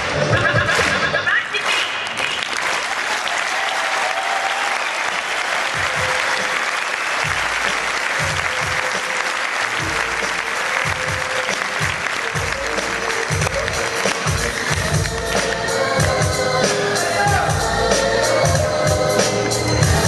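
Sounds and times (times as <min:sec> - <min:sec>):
music: 0:00.0 - 0:01.4, 0:05.4 - 0:20.0
audience applauding: 0:00.0 - 0:16.8.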